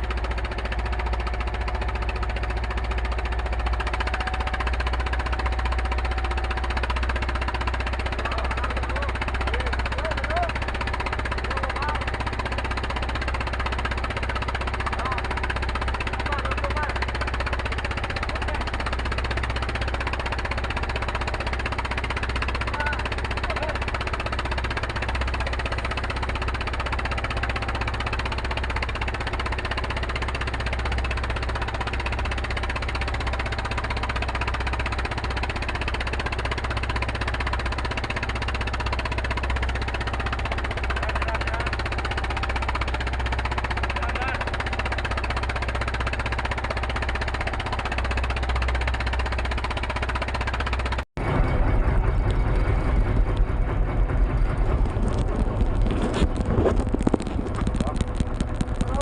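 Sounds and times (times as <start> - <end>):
diesel engine running with knock: 0.0 - 59.0.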